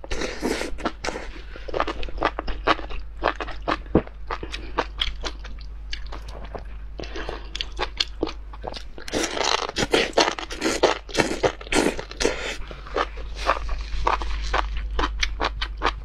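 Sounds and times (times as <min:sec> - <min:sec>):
wet chewing: 0:00.2 - 0:16.0.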